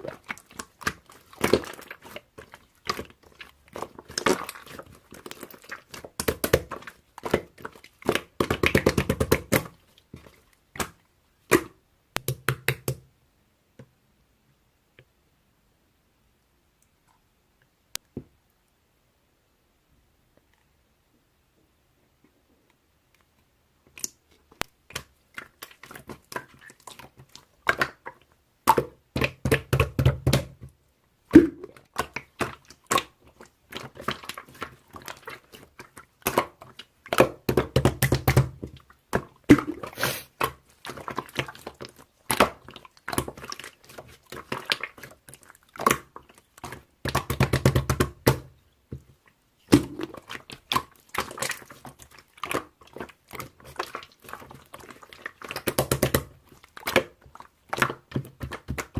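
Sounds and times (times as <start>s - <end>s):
hands squishing slime: 0.0s - 13.0s, 23.9s - 58.9s
rapid popping of slime: 0.0s - 13.1s, 23.9s - 58.9s.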